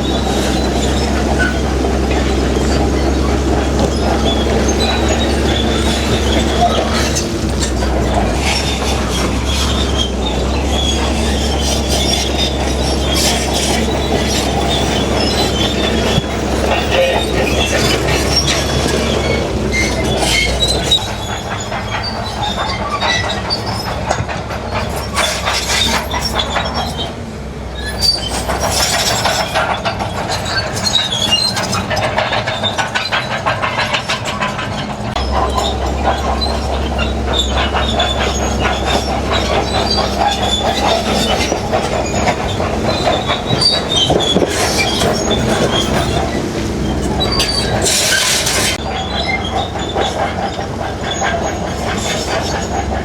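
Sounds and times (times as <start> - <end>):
rock grinding: 0.0 - 27.2, 28.1 - 53.0
diesel engine under load: 0.0 - 53.0
steel tracks clanking and squealing: 0.0 - 53.0.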